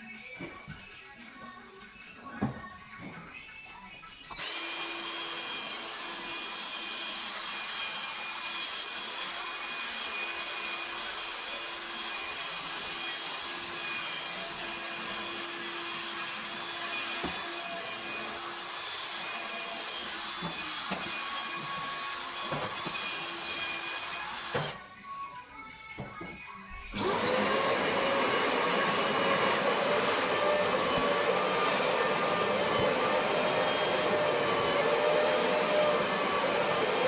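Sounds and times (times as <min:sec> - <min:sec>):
electric detailing machine whining: 0:04.4 - 0:24.8, 0:26.9 - 0:37.0.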